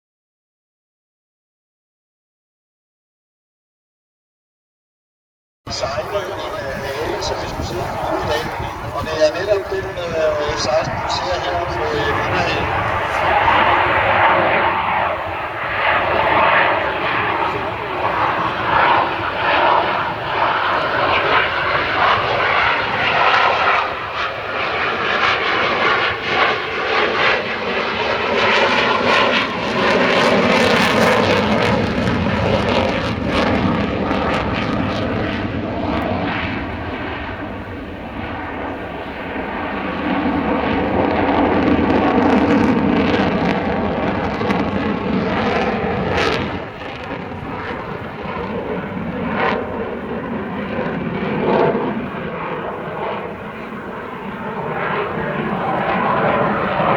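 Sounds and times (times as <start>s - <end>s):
jet engine roar: 5.7s - 56.9s.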